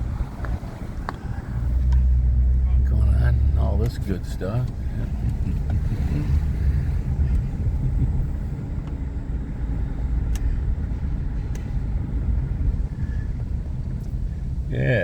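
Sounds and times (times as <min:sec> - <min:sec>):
engine rumble: 0:00.0 - 0:15.0
tyres on the road: 0:00.0 - 0:15.0.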